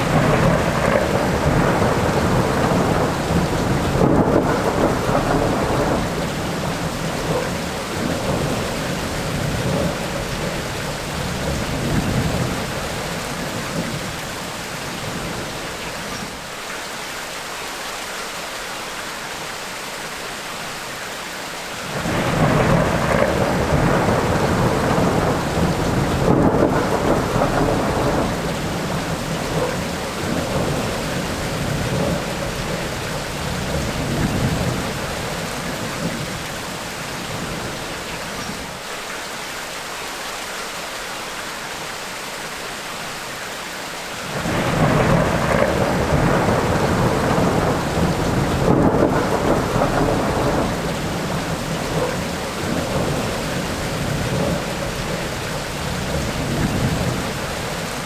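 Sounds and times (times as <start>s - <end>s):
thunder rumbling: 0.0s - 16.3s, 21.9s - 38.7s, 44.3s - 58.0s
rain hissing: 0.0s - 58.0s.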